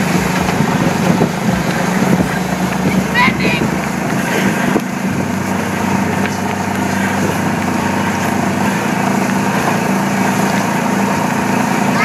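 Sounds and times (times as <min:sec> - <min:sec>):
golf cart motor humming: 0:00.0 - 0:12.0.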